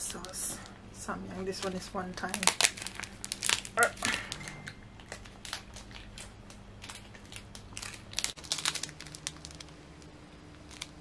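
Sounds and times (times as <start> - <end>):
plastic sachet crinkling: 1.5 - 11.0.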